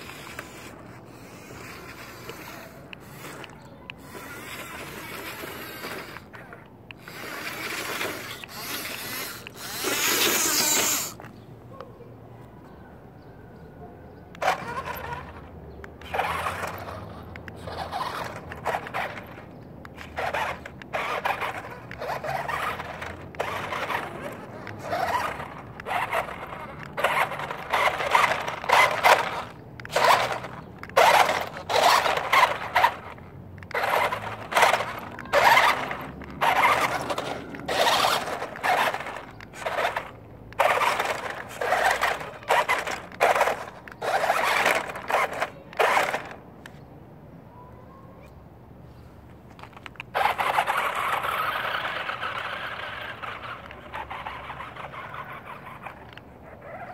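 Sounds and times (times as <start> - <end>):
electric motor and gears whining: 0.0 - 11.4, 14.3 - 46.4, 49.5 - 56.9
tyres scraping on stones: 0.0 - 11.4, 14.1 - 46.9, 48.9 - 56.9.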